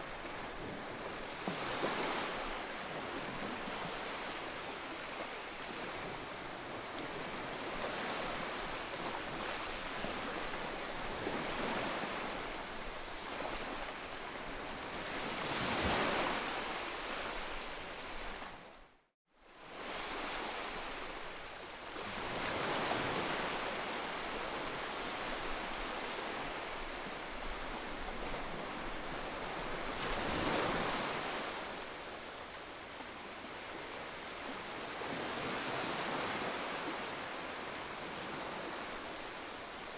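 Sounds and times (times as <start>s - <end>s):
ocean waves surf: 0.0s - 6.3s, 6.9s - 18.8s, 21.9s - 39.9s.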